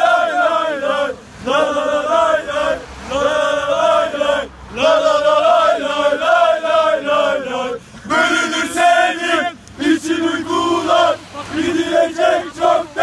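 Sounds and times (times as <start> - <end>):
crowd chanting a song: 0.0 - 13.0.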